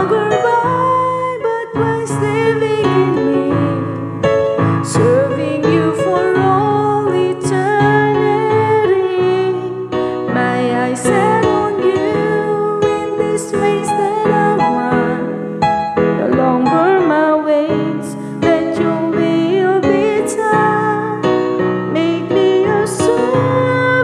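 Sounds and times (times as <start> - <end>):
electric piano chords: 0.0 - 24.0
person singing: 0.0 - 24.0.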